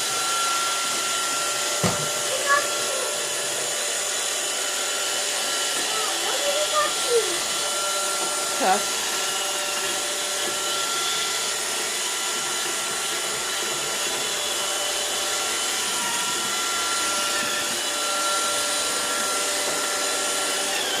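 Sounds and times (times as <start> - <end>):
robot vacuum whirring: 0.0 - 21.0.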